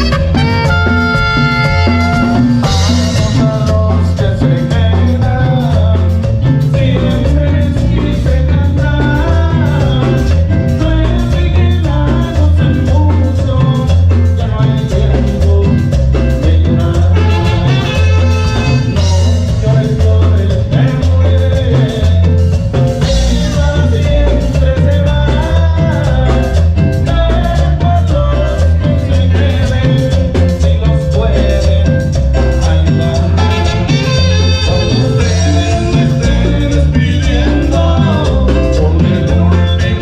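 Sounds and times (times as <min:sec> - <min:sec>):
live cumbia band playing: 0:00.0 - 0:40.0
pulsing bass beat: 0:00.0 - 0:40.0.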